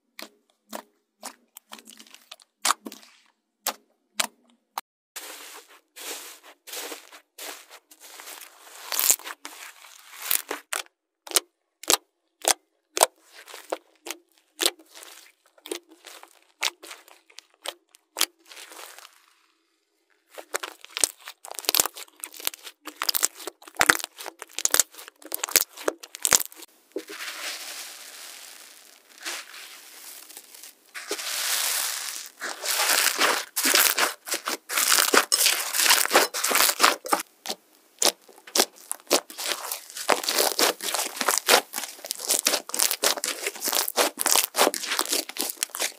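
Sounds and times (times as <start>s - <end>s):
slime crackling and squelching: 0.0s - 4.5s, 5.2s - 45.9s.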